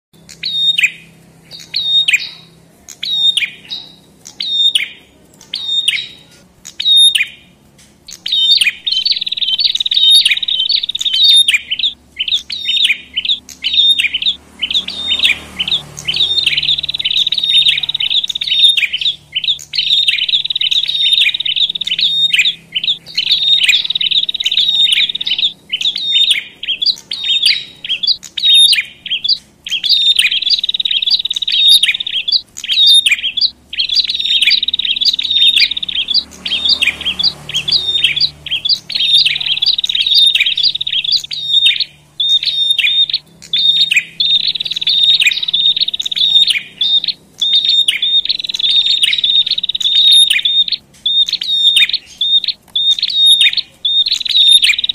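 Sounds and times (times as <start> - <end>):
small birds chirping and trilling: 0.1 - 54.9.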